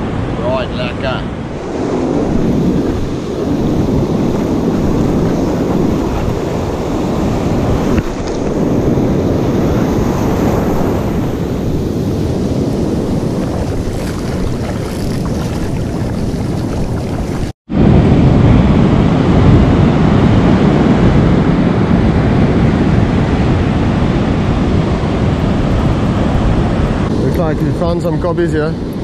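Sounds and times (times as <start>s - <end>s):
ocean surf washing: 0.0s - 29.0s
wind buffeting microphone: 0.0s - 29.0s.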